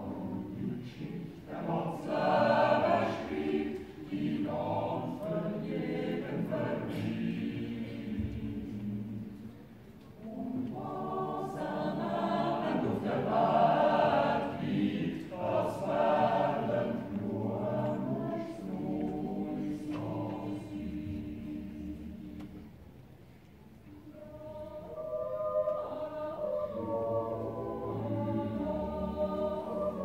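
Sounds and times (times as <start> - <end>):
mixed choir singing a cappella: 0.0 - 23.0, 23.9 - 30.0.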